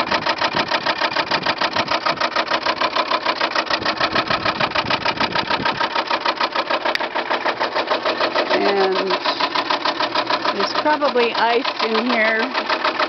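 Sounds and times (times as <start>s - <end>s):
heat pump fan clattering: 0.0s - 13.0s.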